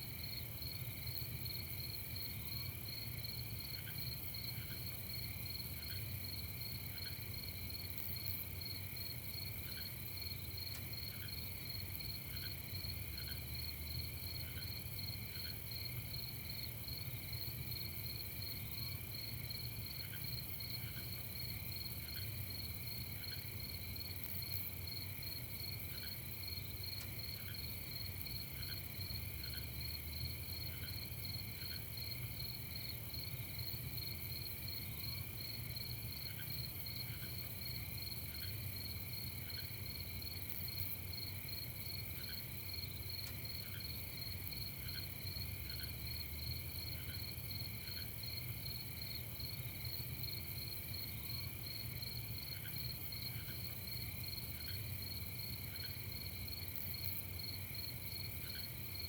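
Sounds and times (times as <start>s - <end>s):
crickets trilling: 0.1s - 59.0s.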